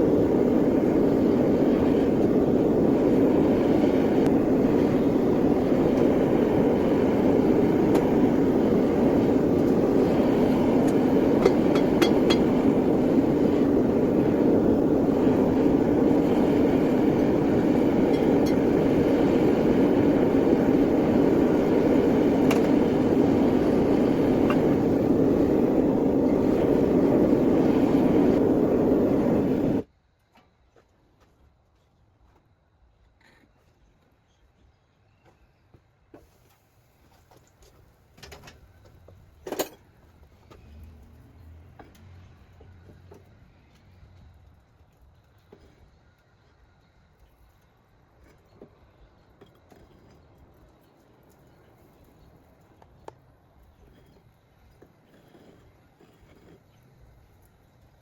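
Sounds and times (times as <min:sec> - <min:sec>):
gas furnace burner roaring: 0:00.0 - 0:29.9, 0:36.4 - 0:58.0.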